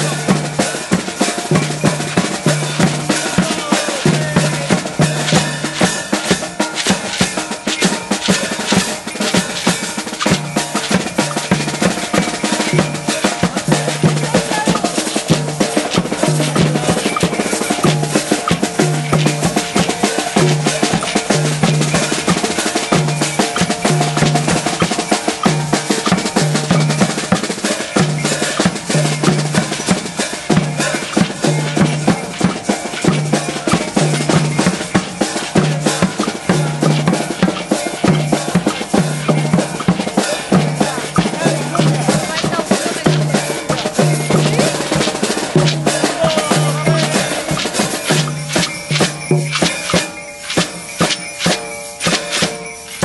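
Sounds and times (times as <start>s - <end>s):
large bass drum beating: 0.0s - 51.0s
hand cymbals clashing: 0.0s - 53.0s
snare drum strokes and rolls: 0.0s - 53.0s.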